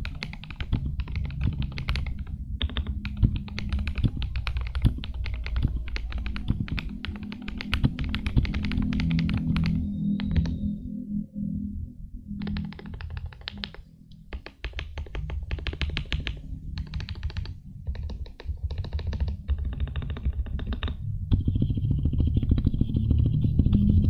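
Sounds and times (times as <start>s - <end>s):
mechanical keyboard typing: 0.0s - 10.6s, 12.4s - 24.0s.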